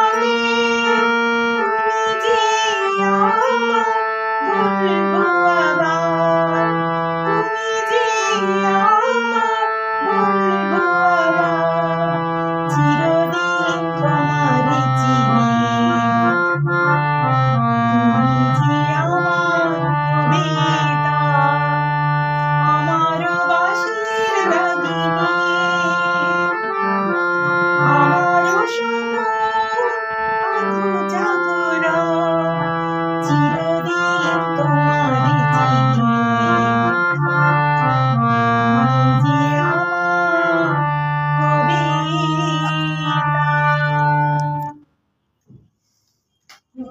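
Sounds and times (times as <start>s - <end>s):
organ-like keyboard melody: 0.0s - 45.4s.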